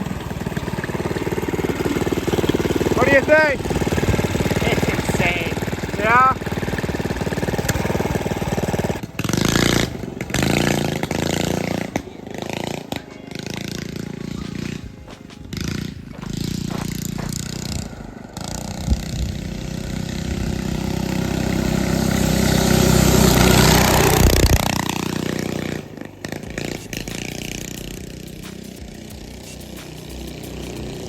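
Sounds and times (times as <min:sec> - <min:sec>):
go-kart engine passing: 0:00.0 - 0:31.0.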